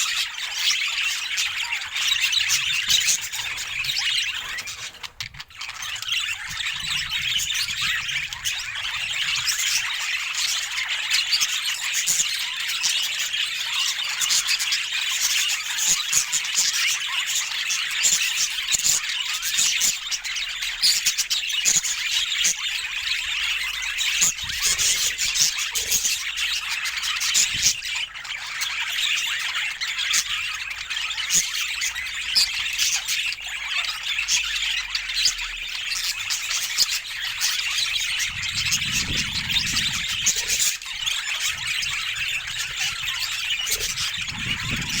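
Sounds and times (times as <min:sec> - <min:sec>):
budgerigars chattering: 0:00.0 - 0:45.0.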